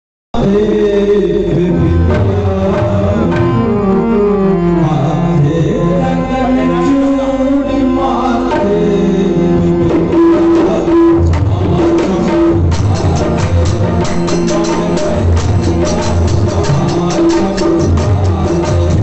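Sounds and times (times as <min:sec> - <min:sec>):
held melody line: 0:00.4 - 0:19.0.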